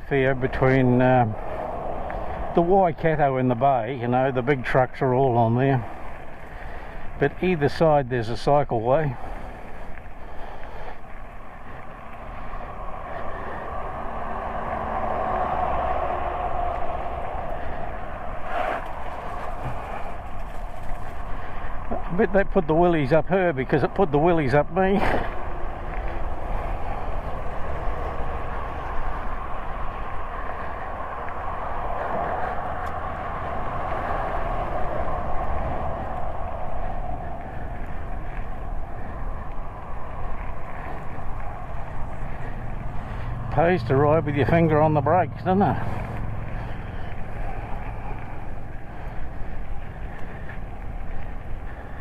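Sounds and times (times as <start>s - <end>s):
highway traffic rush: 0.0s - 52.0s
wind rumble on microphone: 0.0s - 52.0s.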